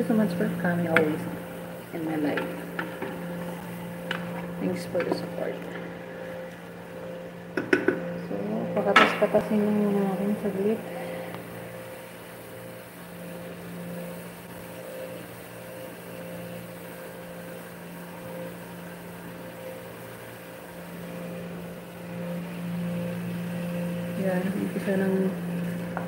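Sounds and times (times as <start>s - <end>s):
small motor humming: 0.0s - 26.0s.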